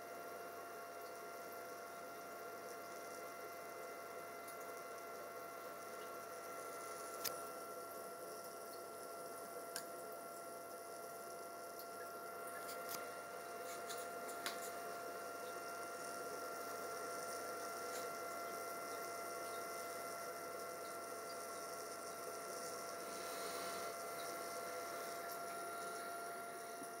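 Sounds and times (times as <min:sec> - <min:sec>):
cooling fan humming: 0:00.0 - 0:27.0.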